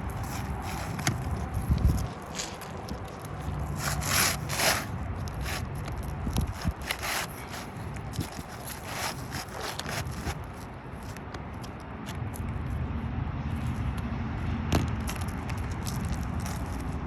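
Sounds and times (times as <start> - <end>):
scraping on asphalt roofing: 0.0 - 12.3, 14.8 - 17.0.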